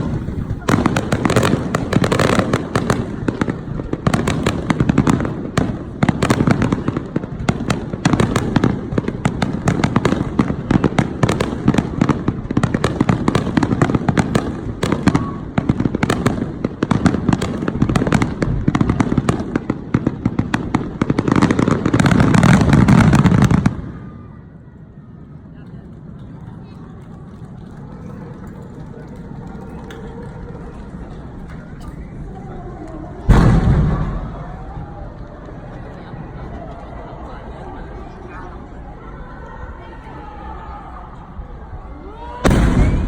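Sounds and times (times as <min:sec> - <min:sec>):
fireworks booming and cracking: 0:00.0 - 0:24.3, 0:25.9 - 0:36.0, 0:42.4 - 0:43.0.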